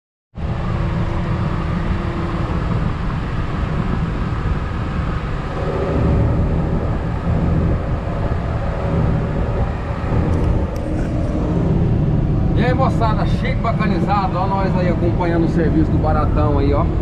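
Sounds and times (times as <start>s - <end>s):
tractor diesel engine under load: 0.4s - 17.0s.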